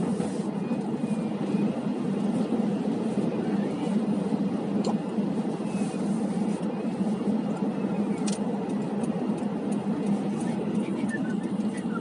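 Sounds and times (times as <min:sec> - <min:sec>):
car cabin drone while driving: 0:00.0 - 0:12.0.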